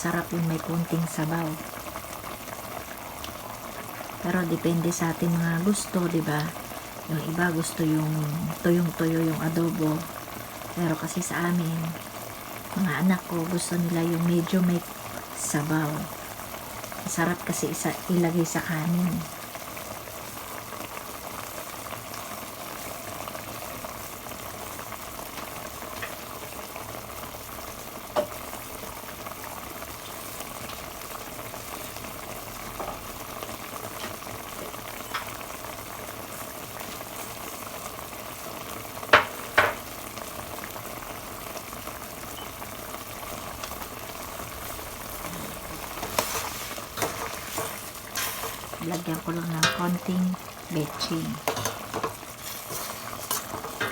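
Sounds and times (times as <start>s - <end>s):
sauce bubbling in a pot: 0.0s - 53.9s.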